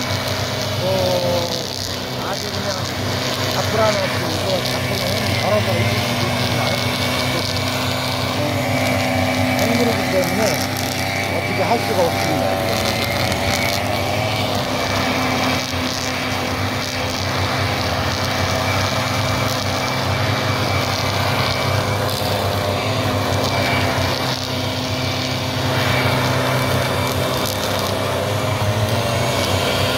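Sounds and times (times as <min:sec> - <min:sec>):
brush cutters spinning trimmer line: 0:00.0 - 0:29.9
leaf blower engine: 0:00.0 - 0:29.9.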